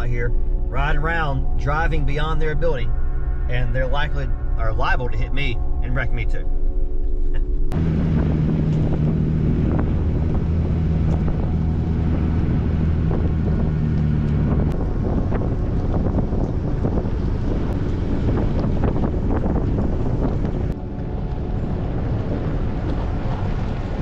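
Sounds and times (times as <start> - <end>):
road rumble: 0.0 - 24.0
vehicle running gear drone: 0.0 - 24.0
wind buffeting microphone: 0.0 - 24.0.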